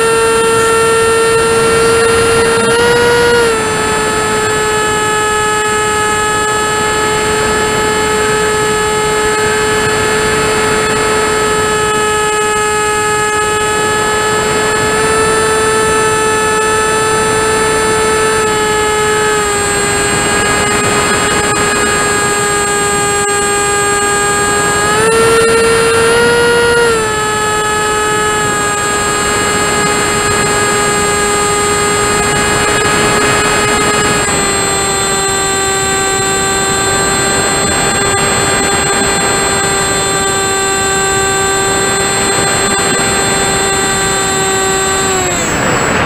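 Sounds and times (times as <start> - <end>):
airflow noise: 0.0 - 46.0
model aircraft motor and propeller: 0.0 - 46.0.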